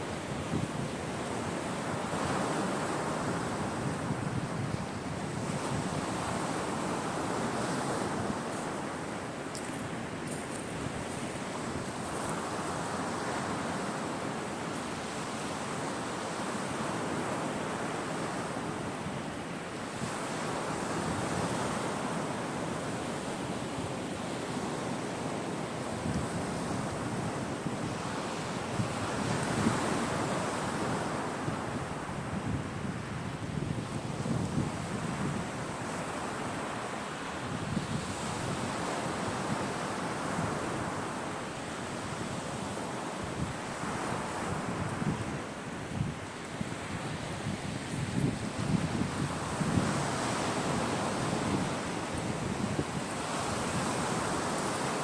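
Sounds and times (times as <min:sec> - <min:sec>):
sea waves breaking on shore: 0:00.0 - 0:55.0
wind: 0:00.0 - 0:55.0.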